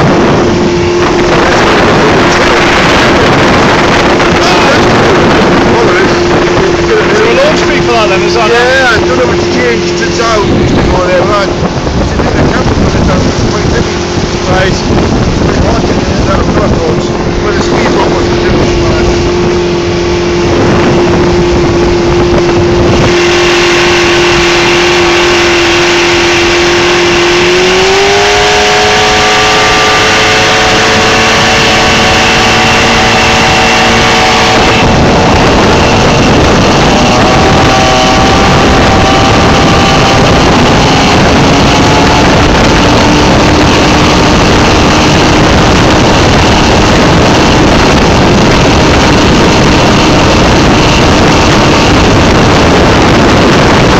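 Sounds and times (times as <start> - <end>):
outboard motor running hard: 0.0 - 53.9
rushing water and wind: 0.0 - 53.9.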